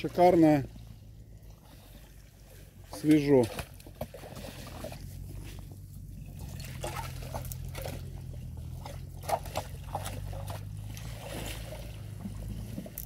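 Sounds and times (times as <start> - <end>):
shovel sloshing through slush: 0.0 - 13.0
steady low hum: 0.0 - 13.0.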